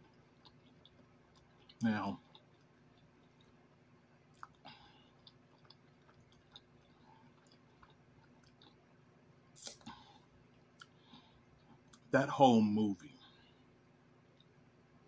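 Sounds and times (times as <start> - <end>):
person chewing food: 0.0 - 12.1, 13.3 - 15.0.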